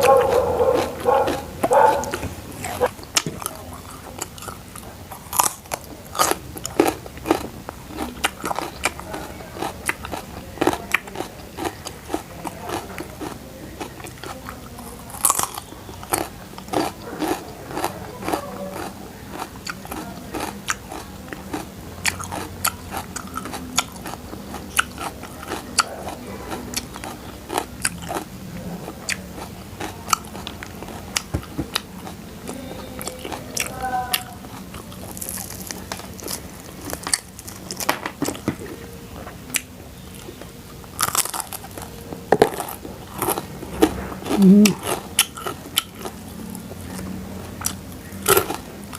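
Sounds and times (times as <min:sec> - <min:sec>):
person chewing crunchy food: 0:00.0 - 0:48.9.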